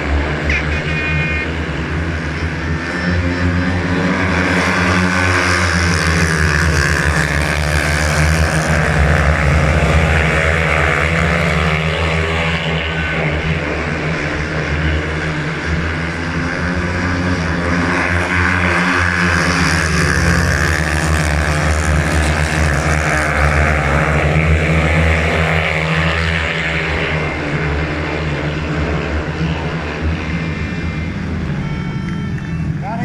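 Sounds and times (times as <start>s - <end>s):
motorbike engines revving: 0.0s - 33.0s.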